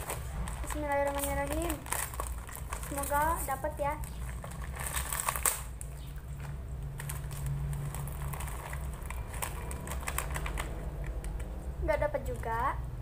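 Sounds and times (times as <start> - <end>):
snacks rattling into a glass bowl: 0.0 - 6.1, 7.0 - 11.4
plastic packet crinkling: 0.0 - 11.6.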